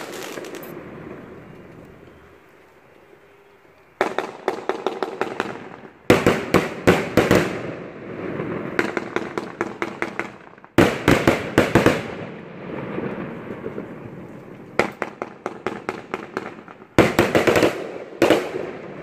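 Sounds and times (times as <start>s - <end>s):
fireworks bangs and crackles: 0.0s - 2.0s, 3.9s - 19.0s.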